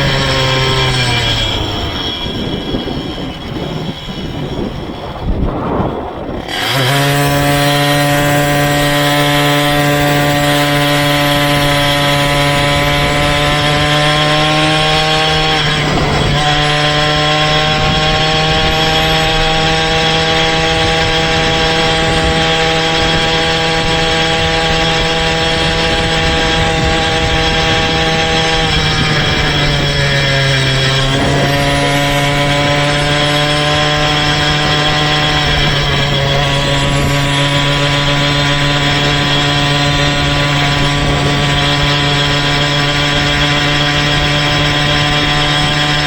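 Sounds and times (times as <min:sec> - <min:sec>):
small engine buzzing drone: 0:00.0 - 0:46.0.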